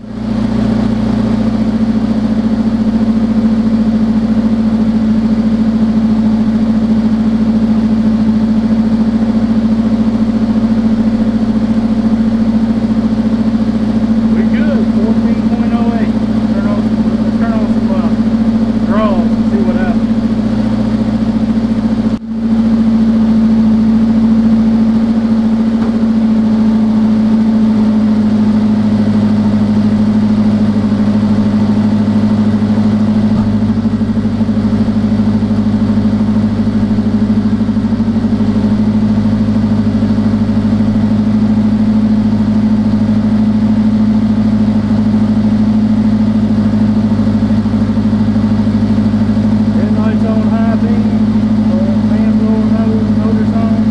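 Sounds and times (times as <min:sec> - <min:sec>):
car engine idling: 0:00.0 - 0:53.9.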